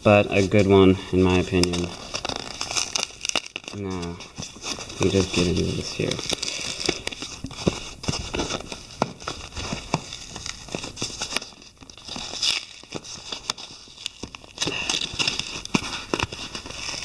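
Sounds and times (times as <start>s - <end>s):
packing material crinkling and tearing: 0.0s - 17.0s.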